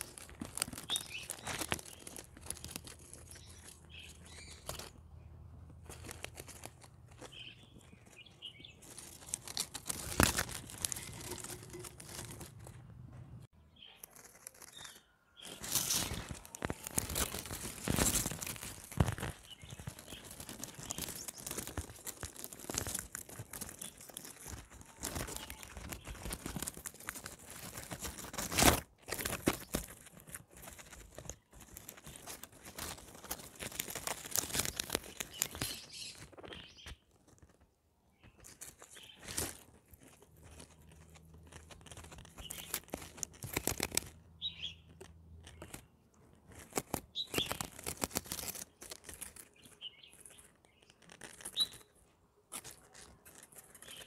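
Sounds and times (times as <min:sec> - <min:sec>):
guinea pigs crunching food: 0:00.0 - 0:54.0.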